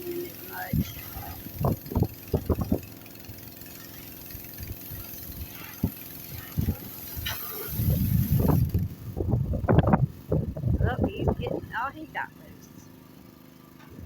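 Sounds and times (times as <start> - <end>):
pressure washer engine running: 0.0 - 14.0.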